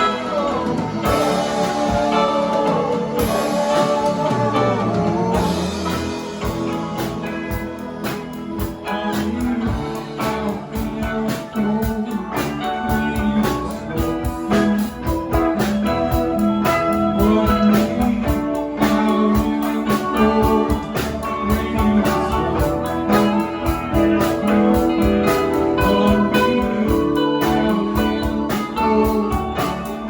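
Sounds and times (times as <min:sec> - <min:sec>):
guitar: 0:00.0 - 0:30.0.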